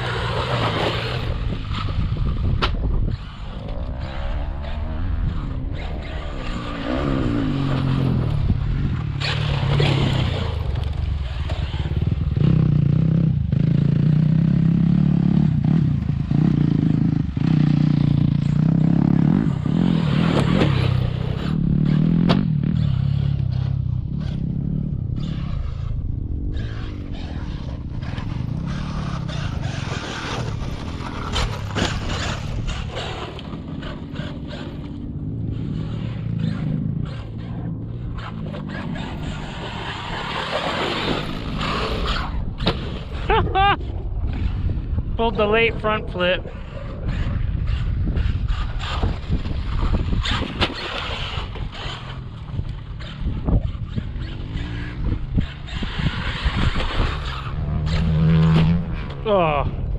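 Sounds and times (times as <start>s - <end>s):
tyres scraping on rough ground: 0.0s - 12.5s, 17.6s - 24.4s, 25.2s - 45.4s, 46.6s - 59.9s
electric motor whining and revving: 0.0s - 59.9s.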